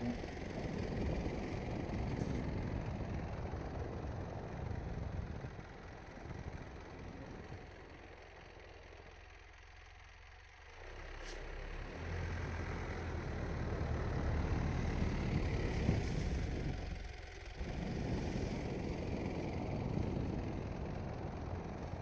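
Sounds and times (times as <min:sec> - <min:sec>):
diesel engine working under load: 0:00.0 - 0:22.0.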